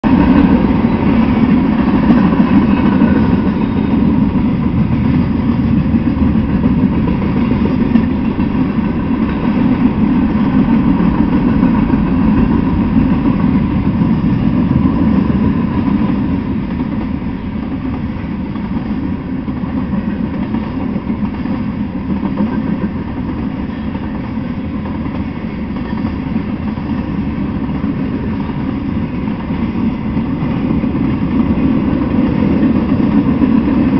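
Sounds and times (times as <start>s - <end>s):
freight train wheels rumbling on rails: 0.0s - 33.9s.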